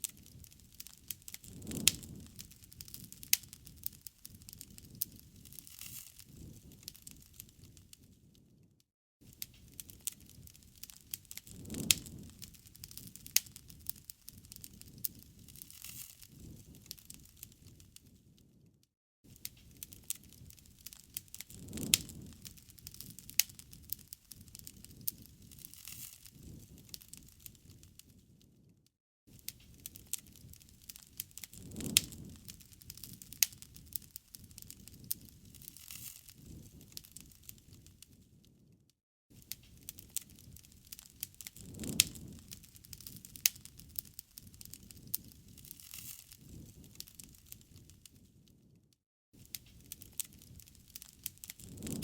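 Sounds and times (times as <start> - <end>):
campfire flames rushing: 0.0 - 8.0, 9.2 - 18.1, 19.3 - 28.1, 29.3 - 38.3, 39.4 - 48.3, 49.4 - 52.0
wood fire crackling and popping: 0.0 - 8.6, 9.2 - 18.7, 19.3 - 28.7, 29.3 - 38.7, 39.3 - 48.7, 49.4 - 52.0.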